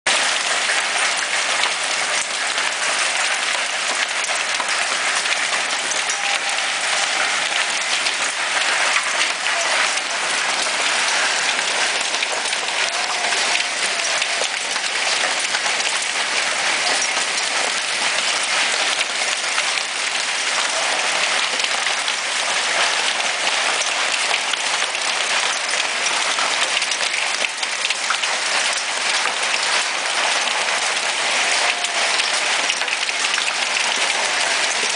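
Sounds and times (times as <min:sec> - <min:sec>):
hail pattering on deck and glass: 0:00.1 - 0:34.9.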